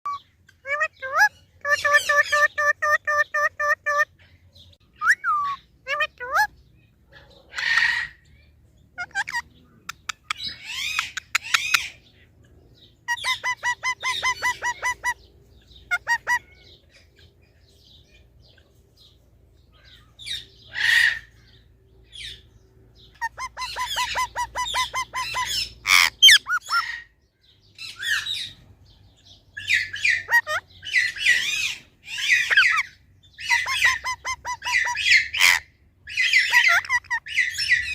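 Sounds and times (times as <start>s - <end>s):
parrot squawking and chirping: 0.1s - 4.2s, 4.9s - 18.1s, 19.8s - 27.2s, 27.8s - 28.6s, 29.5s - 37.9s.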